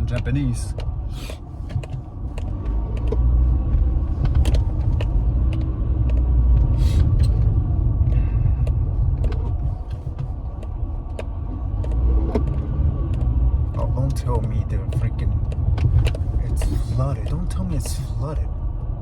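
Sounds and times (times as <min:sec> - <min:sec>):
car engine and road noise: 0:00.0 - 0:19.0
light clicks and rattles: 0:00.0 - 0:19.0.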